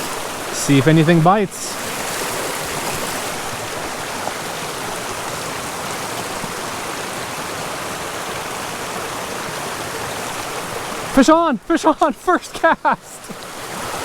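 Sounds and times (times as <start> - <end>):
mountain creek flowing: 0.0 - 14.0.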